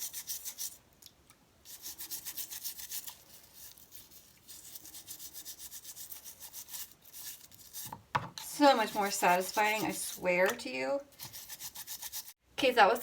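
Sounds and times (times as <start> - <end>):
toothbrush scrubbing drain: 0.0 - 0.8, 1.6 - 12.4.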